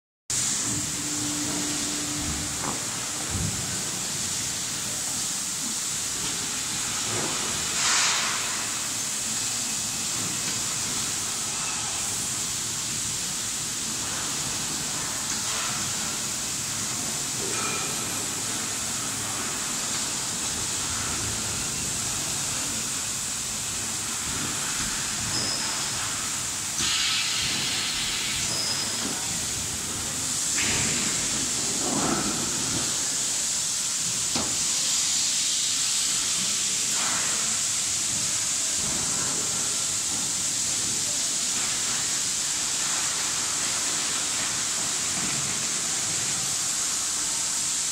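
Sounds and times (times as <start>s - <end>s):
workshop machinery hiss: 0.3s - 47.9s.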